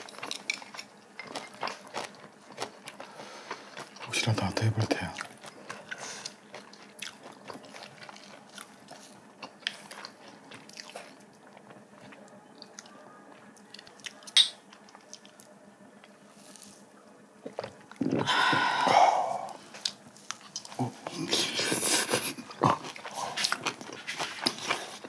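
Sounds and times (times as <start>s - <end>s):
people chewing: 0.0s - 25.0s.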